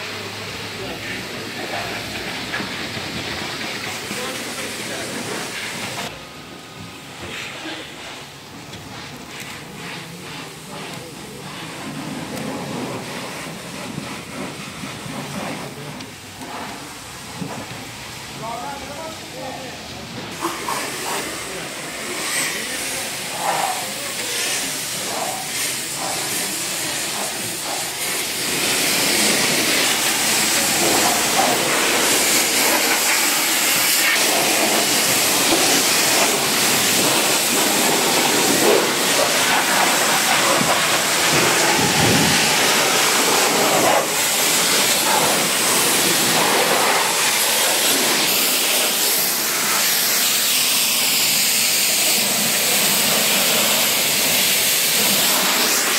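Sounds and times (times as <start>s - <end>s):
steady loud hiss: 0.0s - 55.9s.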